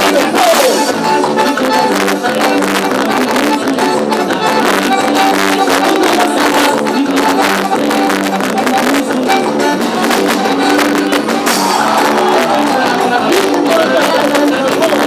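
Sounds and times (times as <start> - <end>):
band music with percussive beat: 0.0 - 15.0.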